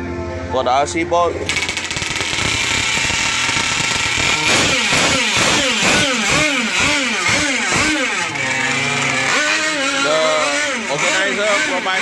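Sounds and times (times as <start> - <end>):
small boat engine revving: 1.5 - 12.0.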